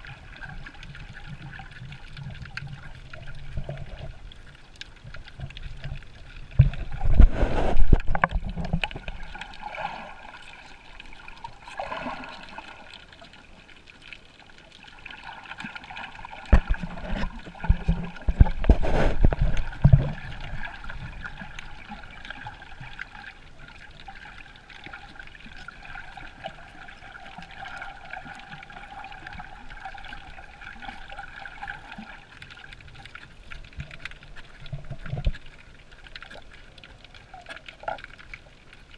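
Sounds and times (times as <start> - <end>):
water sloshing and gurgling: 0.0 - 38.9.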